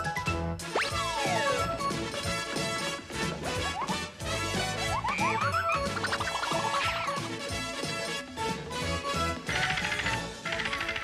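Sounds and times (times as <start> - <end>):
cartoon theme music: 0.0 - 11.0.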